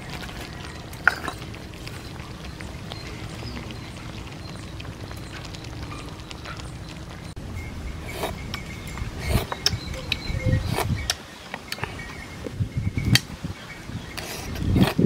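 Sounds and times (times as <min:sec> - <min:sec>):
stew bubbling in pot: 0:00.0 - 0:15.0.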